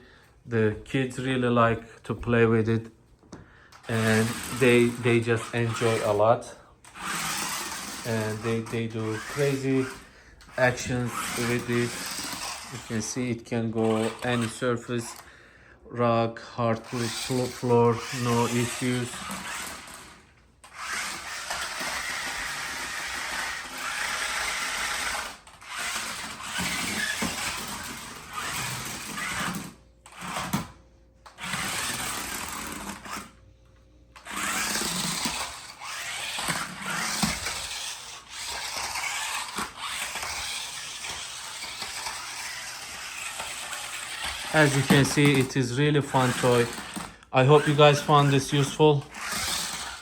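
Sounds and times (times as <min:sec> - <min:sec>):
toy car electric motors whirring: 0:03.7 - 0:15.4, 0:16.7 - 0:50.0.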